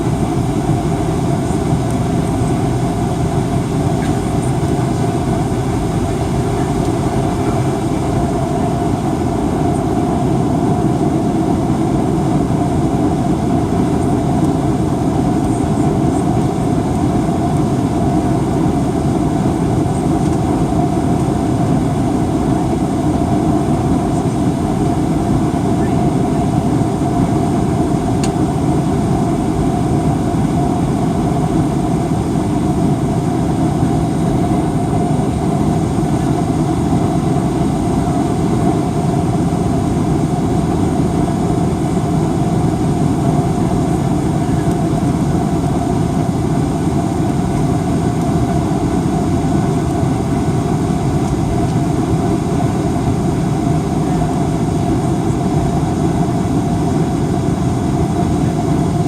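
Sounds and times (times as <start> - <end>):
jet engines rumbling: 0.0 - 59.0
steady cabin hum: 0.0 - 59.0.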